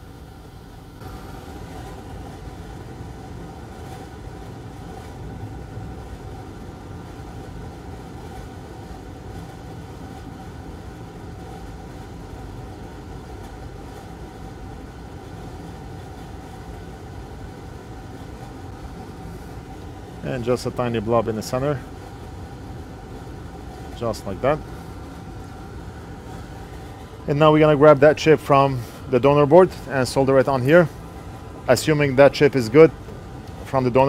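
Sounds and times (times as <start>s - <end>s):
faint steady whine: 0.0s - 34.0s
machine fan whirring: 0.0s - 34.0s.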